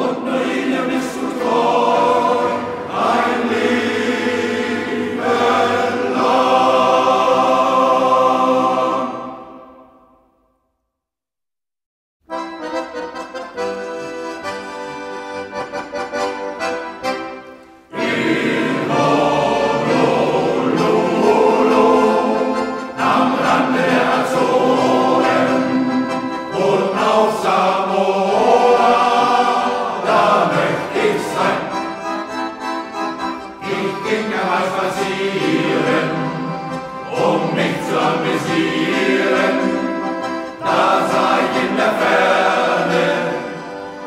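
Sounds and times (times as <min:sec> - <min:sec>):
accordions playing: 0:00.0 - 0:10.0, 0:12.2 - 0:44.0
choir singing: 0:00.0 - 0:10.4, 0:17.8 - 0:32.7, 0:33.4 - 0:44.0.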